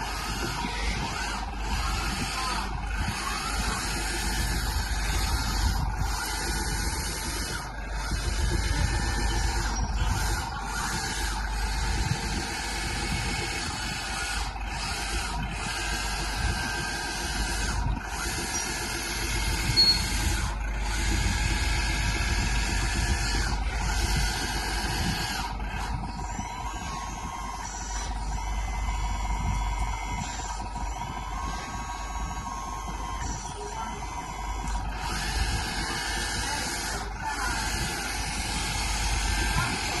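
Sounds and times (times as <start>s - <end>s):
toy bulldozer motors whining: 0.0s - 40.0s.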